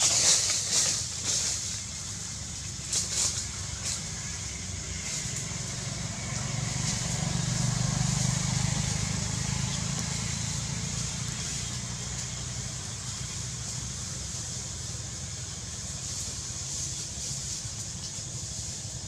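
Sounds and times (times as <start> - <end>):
steady high hiss: 0.0 - 19.0
vehicle engine rumble: 0.0 - 19.0.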